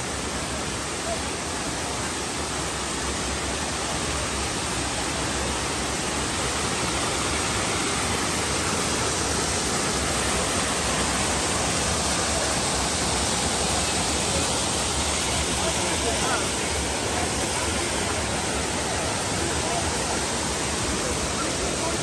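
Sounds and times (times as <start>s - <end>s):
waterfall rushing over boulders: 0.0s - 22.0s.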